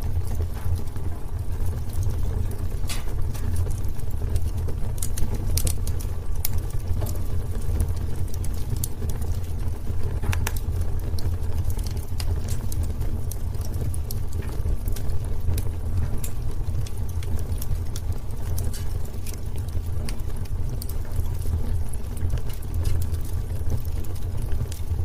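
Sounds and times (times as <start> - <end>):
burning wood crackling and popping: 0.0 - 25.0
fire flames rumbling: 0.0 - 25.0.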